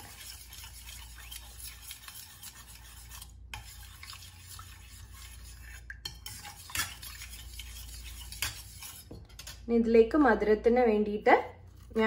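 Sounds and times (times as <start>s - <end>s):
metal spoon scraping saucepan: 0.0s - 9.7s.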